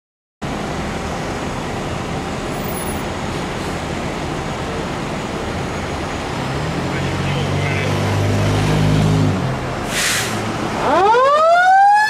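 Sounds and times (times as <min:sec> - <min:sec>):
diesel engines idling: 0:00.4 - 0:08.7, 0:09.4 - 0:11.1.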